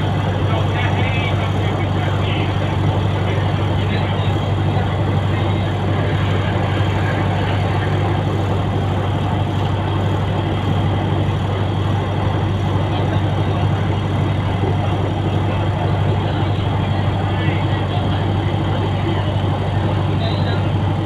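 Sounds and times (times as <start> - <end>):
constant low hum: 0.0 - 21.0
train coach rumbling: 0.0 - 21.0.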